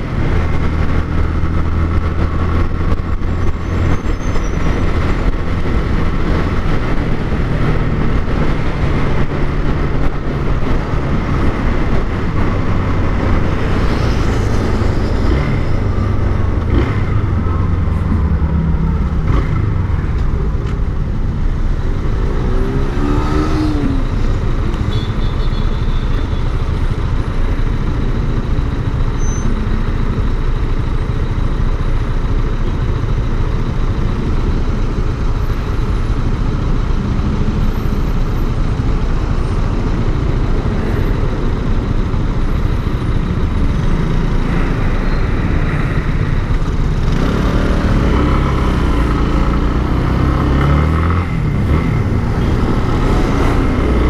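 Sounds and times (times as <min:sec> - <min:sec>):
road noise rumble: 0:00.0 - 0:54.0.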